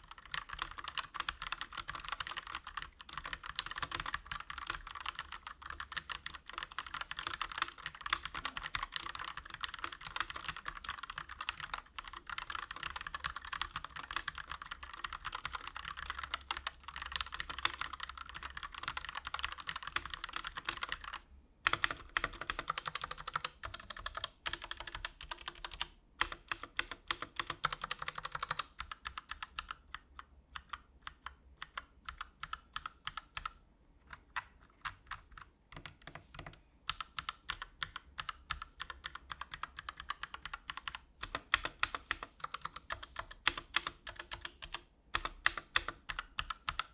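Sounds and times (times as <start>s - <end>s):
fast typing on mechanical keyboard: 0.0s - 46.9s.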